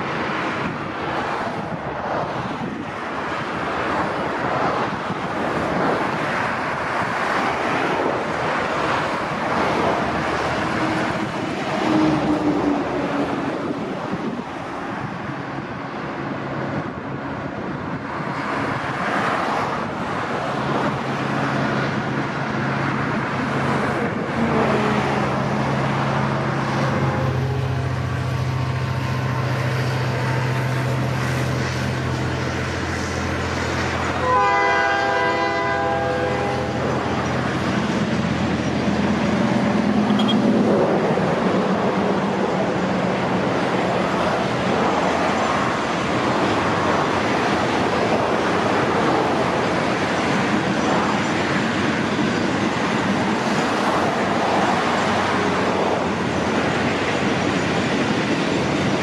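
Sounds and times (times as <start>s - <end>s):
locomotive engine hum: 0.0s - 59.0s
rushing noise: 0.0s - 59.0s.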